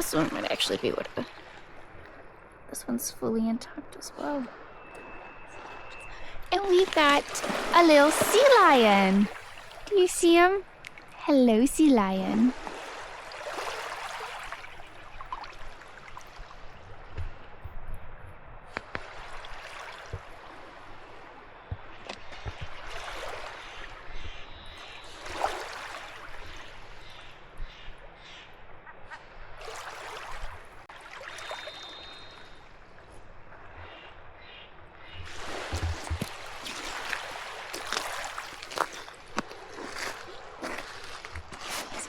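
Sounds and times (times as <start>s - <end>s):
small waves on rocky shore: 0.0s - 17.5s, 18.8s - 24.2s, 24.8s - 27.4s, 29.5s - 33.8s, 35.2s - 42.0s.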